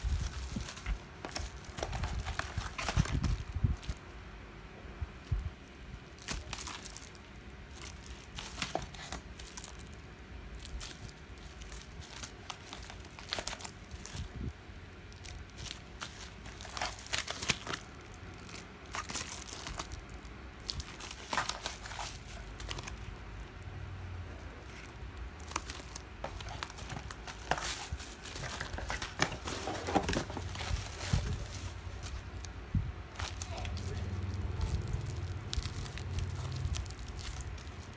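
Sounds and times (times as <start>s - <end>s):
bubble wrap crinkling: 0.0s - 4.2s, 5.2s - 23.7s, 24.4s - 37.9s.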